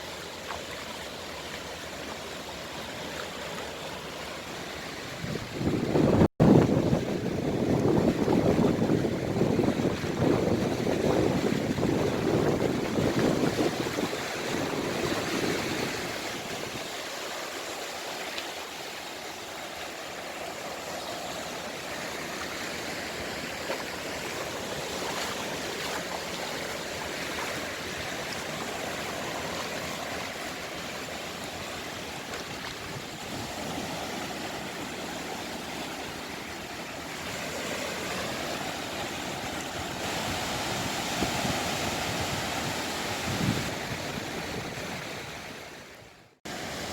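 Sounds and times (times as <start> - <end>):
sea waves breaking: 0.0 - 46.9.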